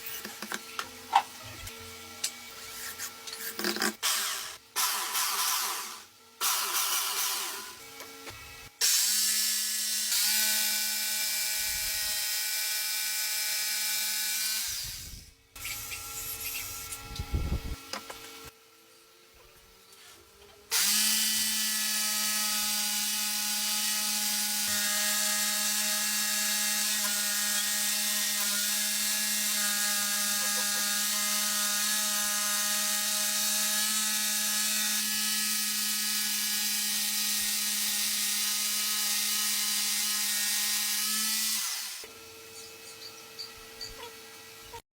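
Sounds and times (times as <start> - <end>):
power tool motor running: 1.6 - 18.5, 20.7 - 44.8.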